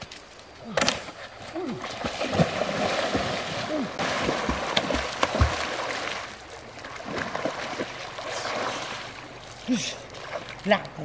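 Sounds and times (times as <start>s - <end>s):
swimming strokes splashing water: 1.2s - 11.0s.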